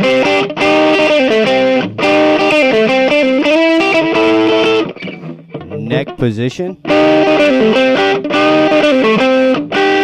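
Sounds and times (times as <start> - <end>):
distorted electric guitar lead: 0.0 - 10.0.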